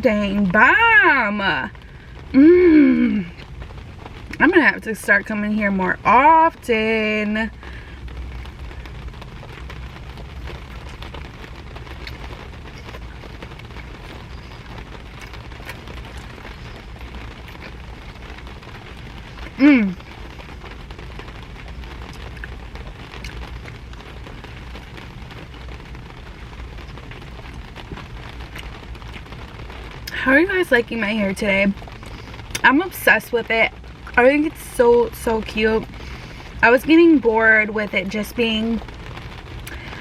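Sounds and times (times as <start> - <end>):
rain on a car: 0.0 - 40.0.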